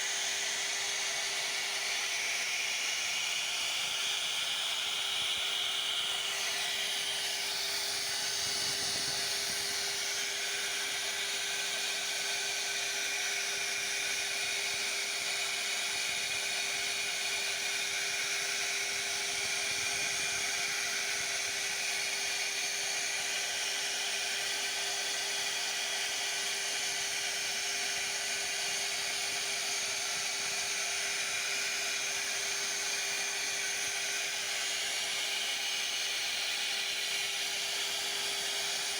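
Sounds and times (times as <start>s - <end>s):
router carving wood: 0.0s - 38.9s.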